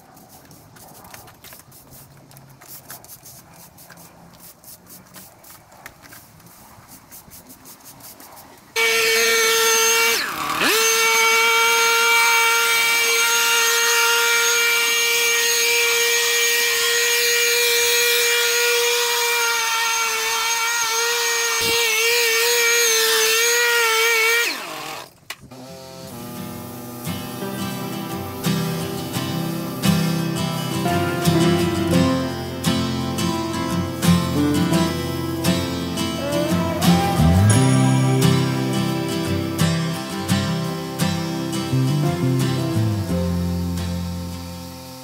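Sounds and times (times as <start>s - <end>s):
electric motor whine: 8.8s - 45.0s.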